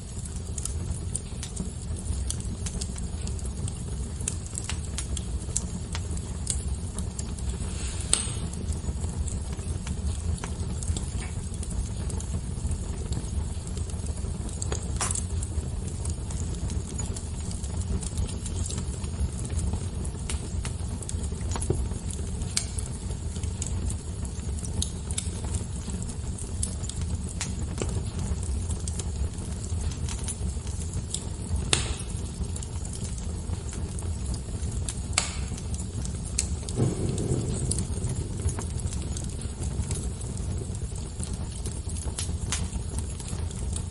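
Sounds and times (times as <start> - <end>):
fire pops and snaps: 0.0 - 43.9
wood fire crackling: 0.0 - 43.9.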